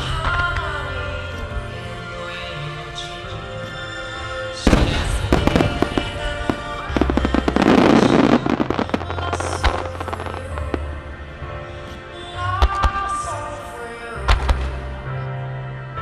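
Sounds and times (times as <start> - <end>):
music: 0.0 - 16.0.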